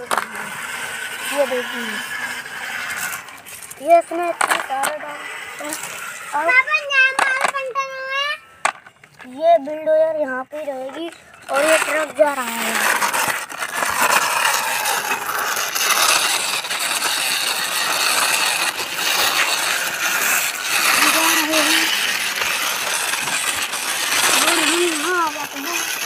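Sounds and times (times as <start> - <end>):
plastic wheels rolling on concrete: 0.0 - 26.0.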